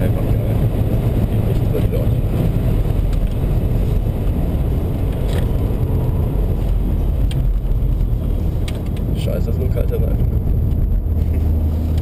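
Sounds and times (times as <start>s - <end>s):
tyre and road noise: 0.0s - 12.0s.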